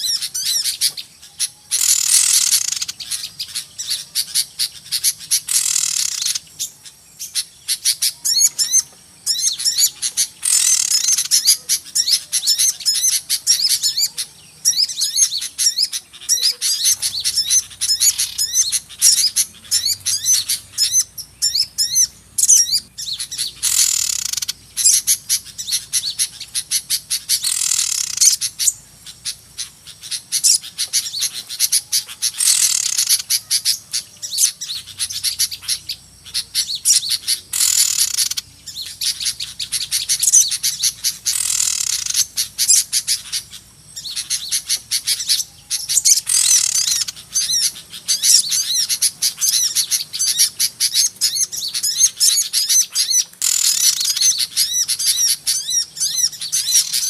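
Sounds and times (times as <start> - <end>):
harsh churring bird calls: 0.0 - 57.0
songbirds chirping and twittering: 0.0 - 57.0.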